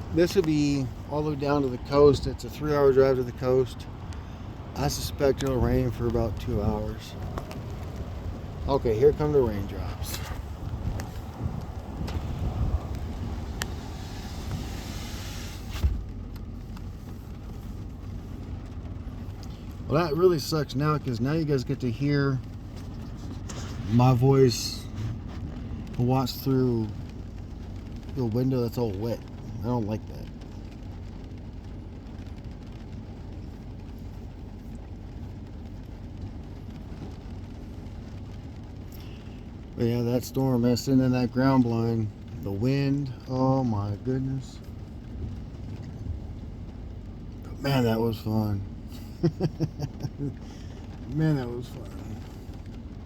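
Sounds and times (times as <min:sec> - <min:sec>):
raindrops ticking on glass: 0:00.0 - 0:14.8, 0:16.0 - 0:53.0
low rumble of wind and rain: 0:00.0 - 0:53.0.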